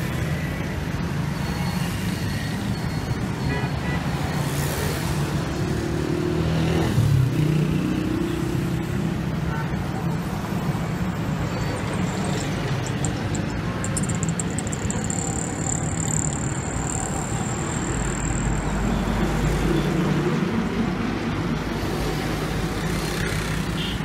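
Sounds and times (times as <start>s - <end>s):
traffic passing: 4.1s - 24.0s.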